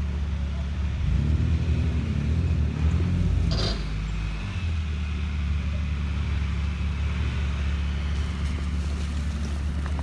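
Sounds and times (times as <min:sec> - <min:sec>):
engines droning at low revs: 0:00.0 - 0:10.0.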